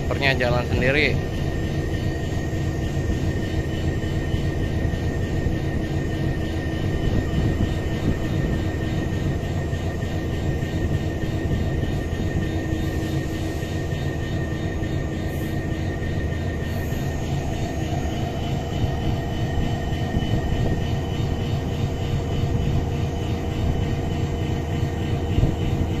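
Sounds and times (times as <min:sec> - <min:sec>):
locomotive diesel engine running: 0:00.0 - 0:26.0.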